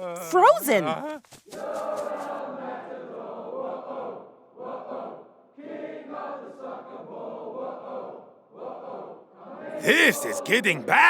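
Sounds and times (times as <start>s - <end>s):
crowd chanting: 1.6s - 11.0s.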